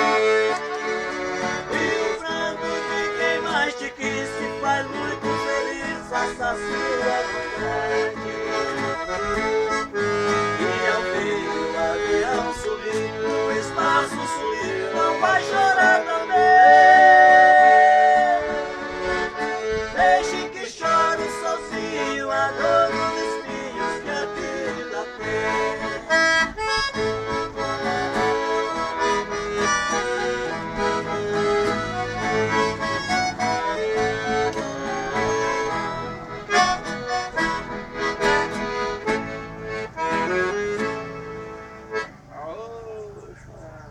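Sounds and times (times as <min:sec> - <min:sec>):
string accompaniment: 0:00.0 - 0:42.3
accordion melody: 0:00.0 - 0:43.9.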